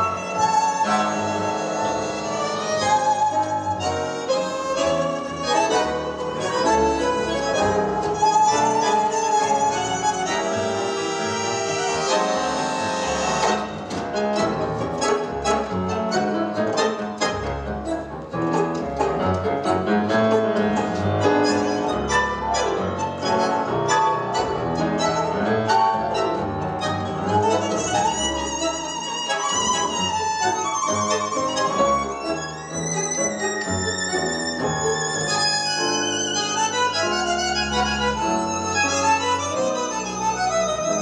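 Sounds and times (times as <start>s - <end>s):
tango quartet playing: 0.0s - 41.0s.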